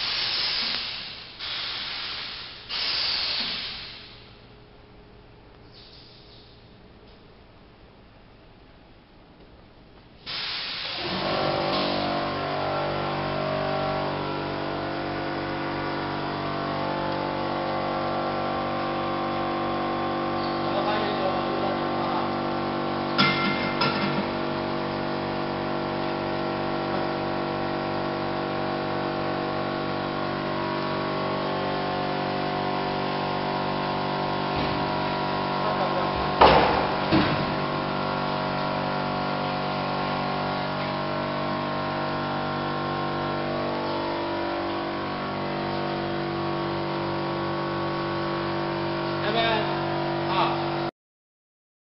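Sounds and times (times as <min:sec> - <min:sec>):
machine hum: 0:04.0 - 0:10.2, 0:10.8 - 0:50.9.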